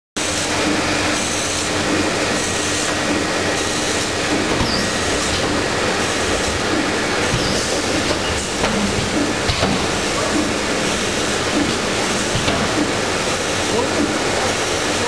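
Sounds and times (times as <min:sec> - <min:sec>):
printing press running: 0:00.2 - 0:15.0.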